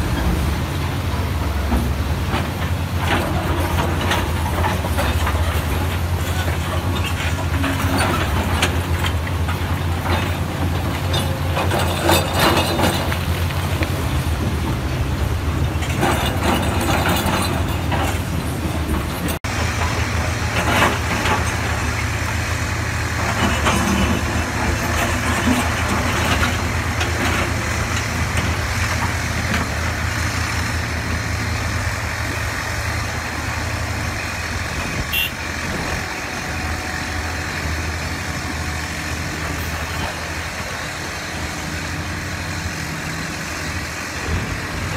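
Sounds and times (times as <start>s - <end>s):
excavator diesel engine: 0.0s - 44.9s.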